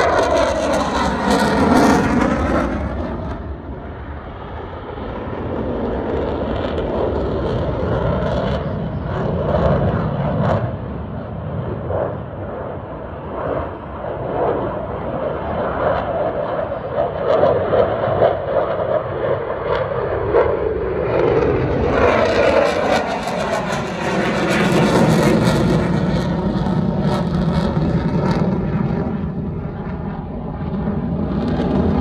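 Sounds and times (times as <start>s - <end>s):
distant jet rumble: 0.0s - 32.0s
fighter jet passing overhead: 0.0s - 32.0s.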